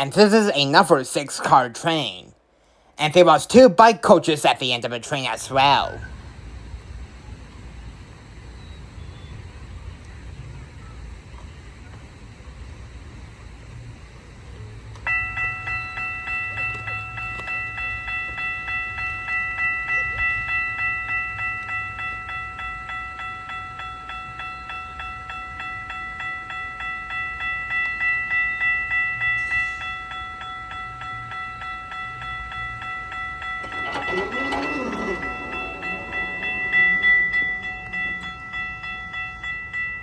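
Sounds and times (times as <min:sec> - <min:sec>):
level crossing warning bell: 0:00.0 - 0:02.3, 0:03.0 - 0:40.0.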